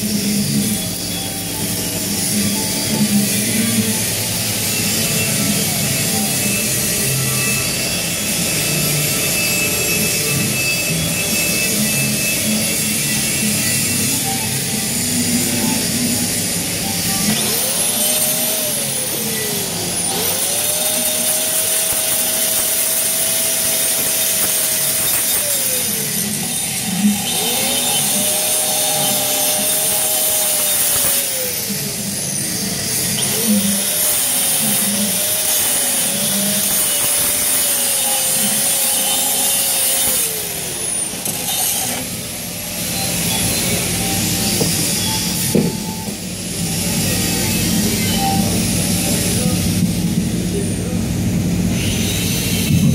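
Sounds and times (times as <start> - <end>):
grinder whining on metal: 0.0 - 52.9.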